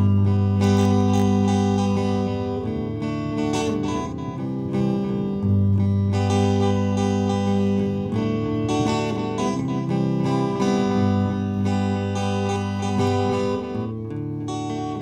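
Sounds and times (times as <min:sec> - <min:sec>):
acoustic guitar plucked chords: 0:00.0 - 0:15.0.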